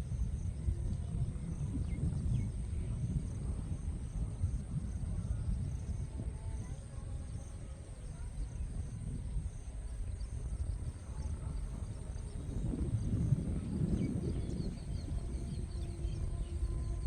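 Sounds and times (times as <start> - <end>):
insects trilling and chirping: 0.0 - 17.0
low rumbling noise: 0.0 - 17.0.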